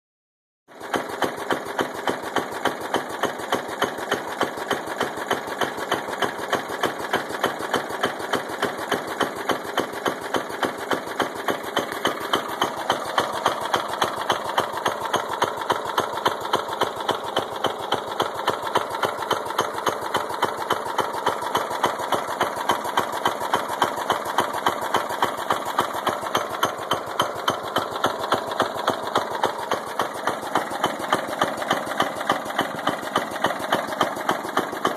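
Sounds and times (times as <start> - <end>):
lawn tractor engine running: 0.7 - 34.9
sharp regular engine knock: 0.7 - 34.9.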